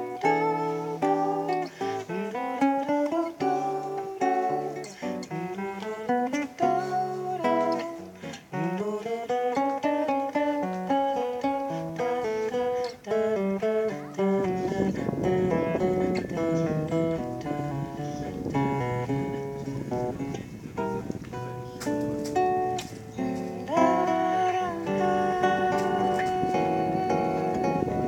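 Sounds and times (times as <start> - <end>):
acoustic guitar melody: 0.0 - 28.0.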